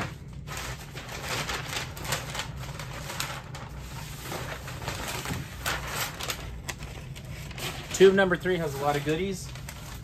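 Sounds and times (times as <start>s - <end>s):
packing paper rustling and crinkling: 0.0s - 10.0s.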